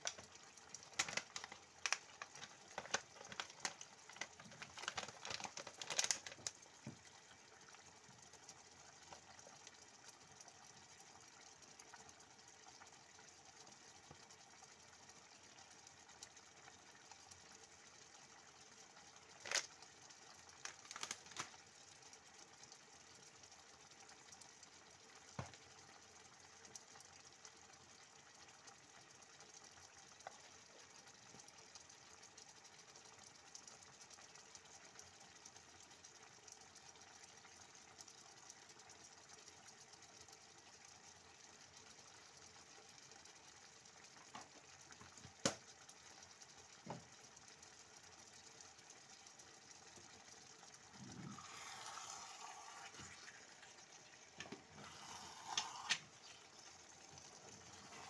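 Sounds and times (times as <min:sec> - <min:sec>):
pan simmering with soft hiss: 0:00.0 - 0:58.0.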